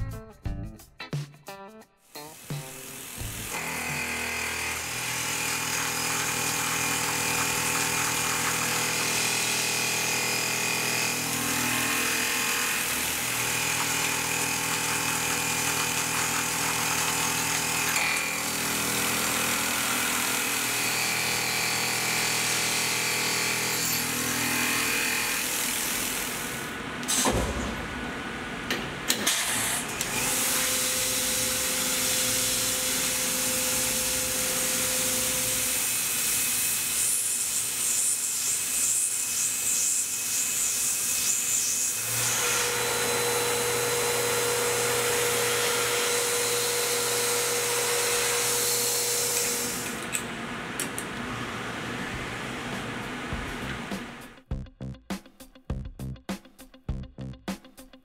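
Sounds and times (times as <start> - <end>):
milling machine whine: 2.4 - 27.2, 30.0 - 54.3.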